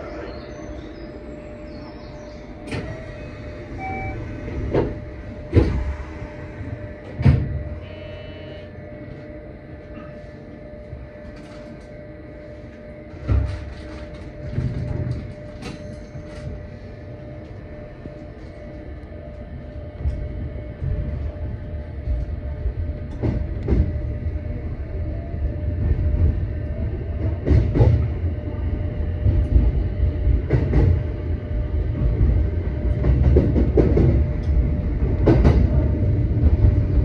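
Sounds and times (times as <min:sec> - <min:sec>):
electric train humming: 0:00.0 - 0:37.0.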